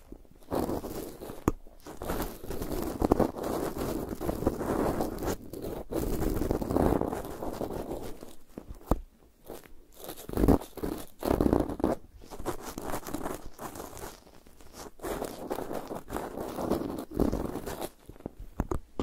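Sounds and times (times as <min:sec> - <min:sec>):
stick scraping microphone grille: 0:00.0 - 0:19.0.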